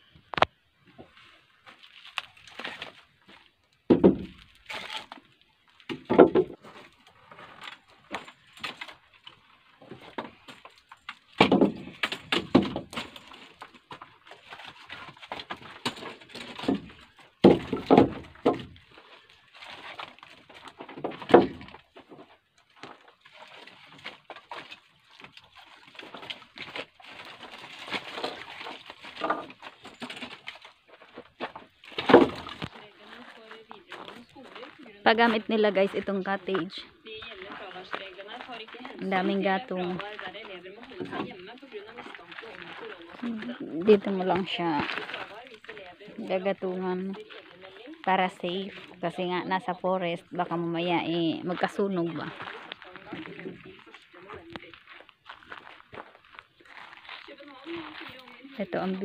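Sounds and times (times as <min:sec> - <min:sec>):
logs knocking together: 0:01.9 - 0:59.0.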